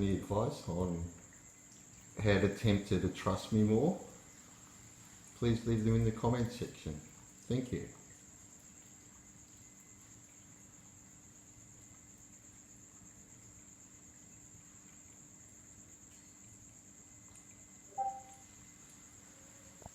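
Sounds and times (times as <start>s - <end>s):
faint low hum: 0.0s - 19.9s
high-pitched insect trilling: 0.0s - 19.9s.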